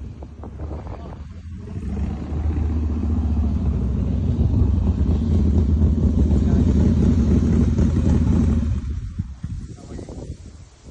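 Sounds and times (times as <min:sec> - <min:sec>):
loud low rumble: 0:00.1 - 0:10.0.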